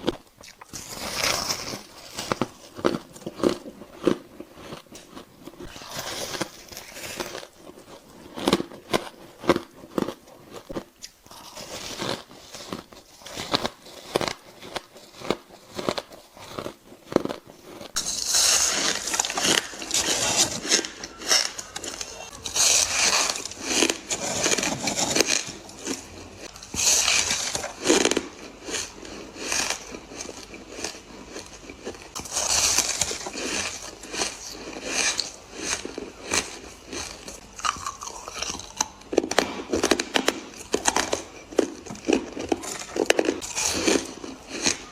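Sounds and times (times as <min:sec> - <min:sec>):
chewing ice crunches: 0:00.0 - 0:44.9.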